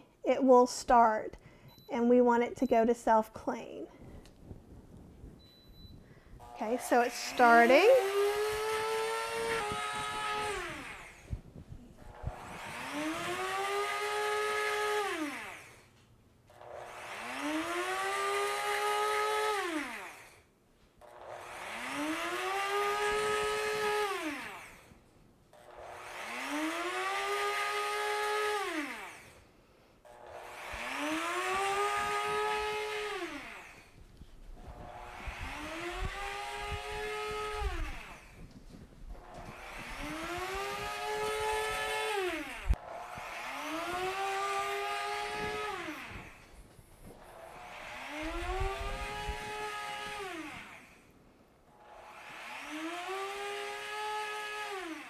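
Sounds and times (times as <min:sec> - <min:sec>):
blender motor churning water: 0:06.4 - 0:11.4, 0:12.0 - 0:15.9, 0:16.5 - 0:25.0, 0:25.6 - 0:34.0, 0:34.6 - 0:38.5, 0:39.2 - 0:55.0.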